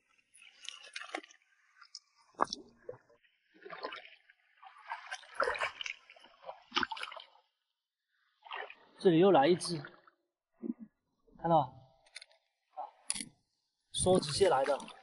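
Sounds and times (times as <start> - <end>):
water splashing and sloshing: 0.0 - 11.2, 11.9 - 15.0.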